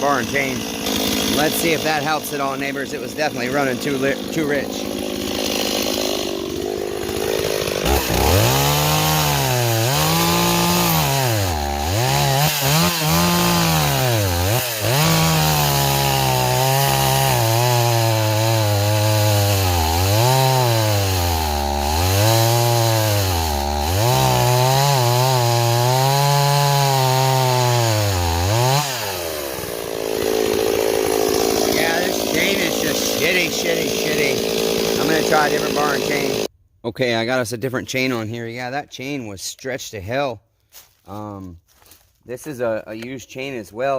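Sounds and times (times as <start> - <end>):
chainsaw cutting log: 0.0 - 36.5.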